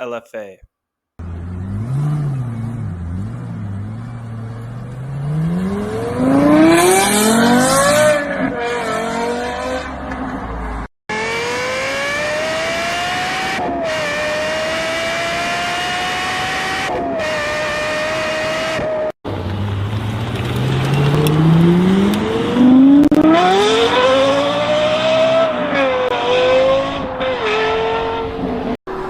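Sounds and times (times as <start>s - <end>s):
car engine revving: 1.2s - 10.2s, 11.1s - 29.0s.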